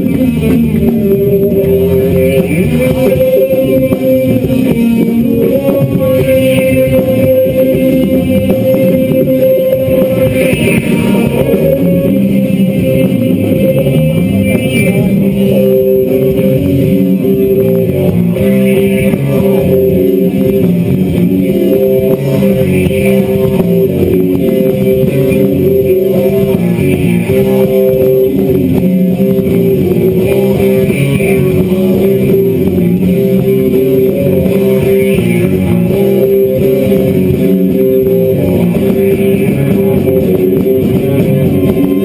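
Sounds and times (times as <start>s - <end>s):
loud guitar music: 0.0s - 42.0s.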